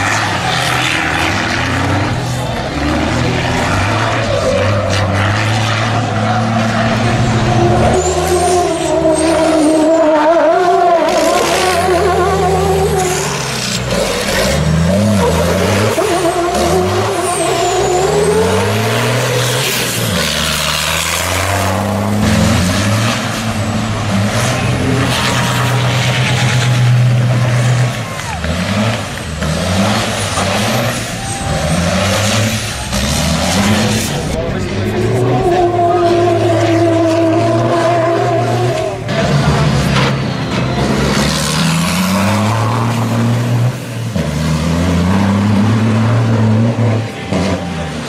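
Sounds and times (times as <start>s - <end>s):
truck engine revving hard: 0.0s - 48.0s.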